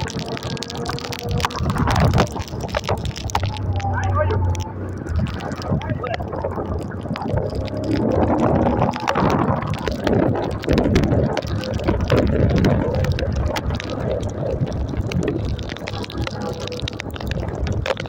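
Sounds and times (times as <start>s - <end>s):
motorcycle engine rumble: 0.0s - 18.0s
raindrops tapping: 0.0s - 18.0s
tyres on wet road: 0.0s - 18.0s
wind buffeting microphone: 0.0s - 18.0s.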